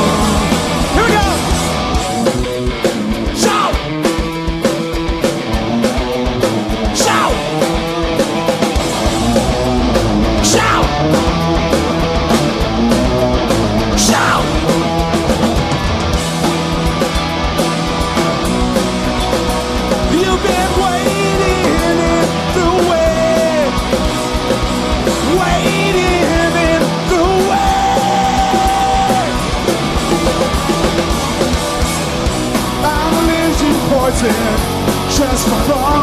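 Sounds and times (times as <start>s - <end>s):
live rock band through pa: 0.0s - 36.0s.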